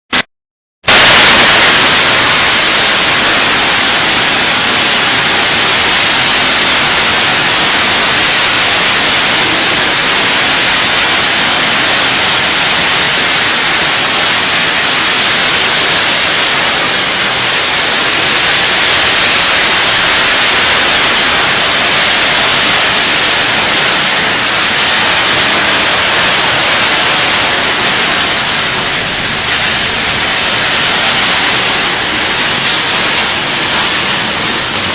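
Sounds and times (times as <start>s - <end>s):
heavy hail and rain: 0.8s - 34.9s.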